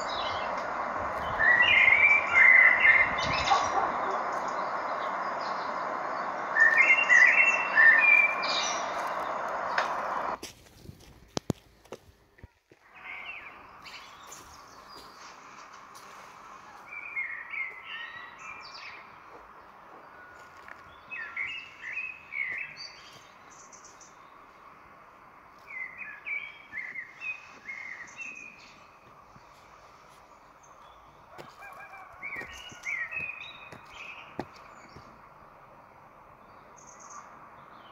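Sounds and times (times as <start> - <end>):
songbird chirping: 0.0 - 10.4, 12.3 - 37.9
faint forest hiss: 0.0 - 37.9.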